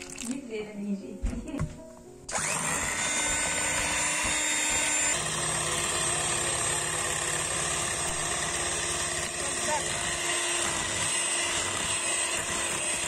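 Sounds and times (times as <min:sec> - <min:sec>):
electric hand mixer motor running: 0:02.3 - 0:13.0.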